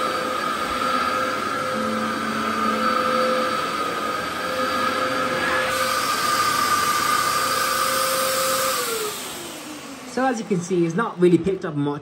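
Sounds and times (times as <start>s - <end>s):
vacuum cleaner whine: 0.0s - 11.8s.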